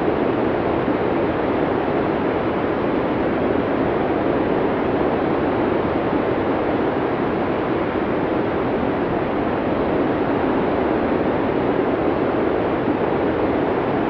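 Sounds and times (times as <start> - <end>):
steady storm wind rushing: 0.0 - 14.0.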